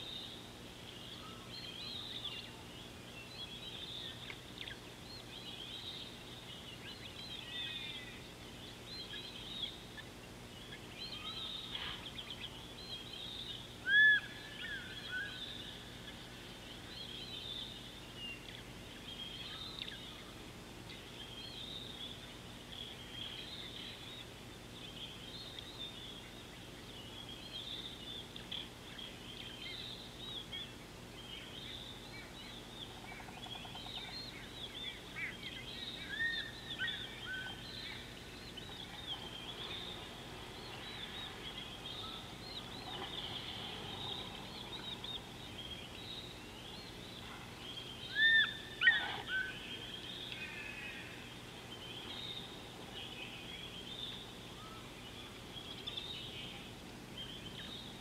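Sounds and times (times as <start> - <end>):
birds chirping: 0.0 - 58.0
faint steady hum: 0.0 - 58.0.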